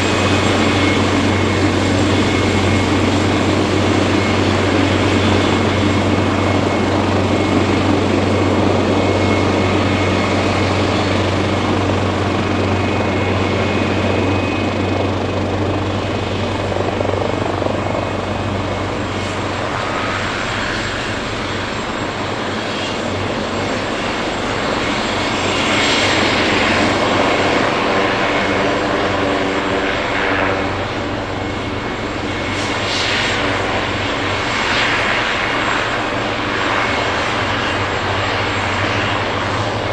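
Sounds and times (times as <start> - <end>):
helicopter rotor drone: 0.0 - 39.9
high turbine whine: 0.0 - 39.9.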